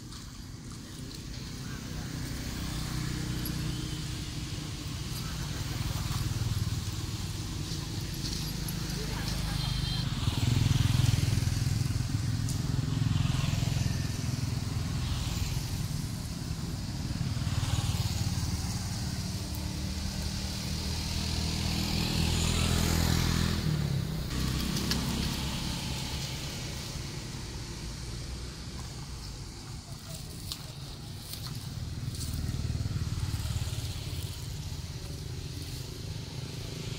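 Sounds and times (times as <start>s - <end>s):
motor engine running: 0.1s - 36.9s.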